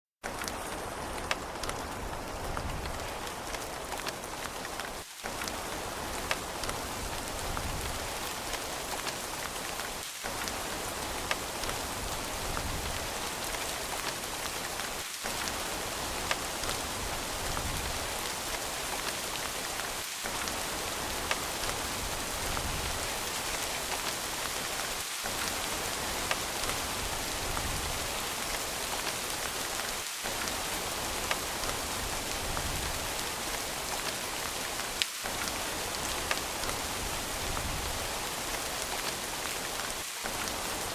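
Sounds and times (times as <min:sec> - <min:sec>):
sharp raindrop ticks: 0:00.2 - 0:40.9
steady rain falling: 0:00.2 - 0:40.9.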